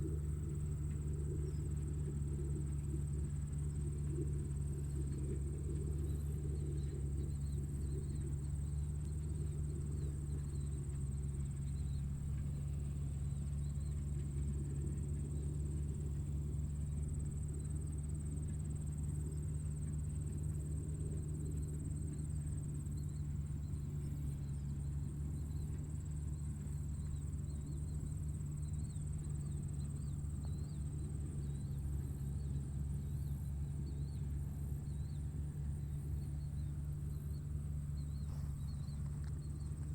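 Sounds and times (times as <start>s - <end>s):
steady low hum: 0.0s - 39.9s
insects trilling: 0.1s - 39.9s.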